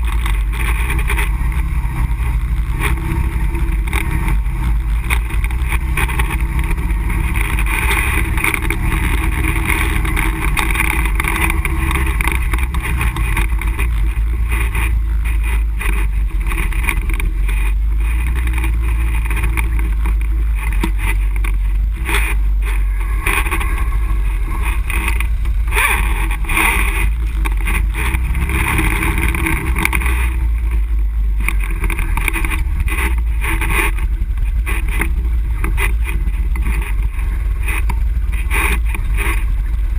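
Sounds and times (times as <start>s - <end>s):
atv engine running: 0.0s - 39.9s
knocks and rattles over bumps: 0.0s - 39.9s.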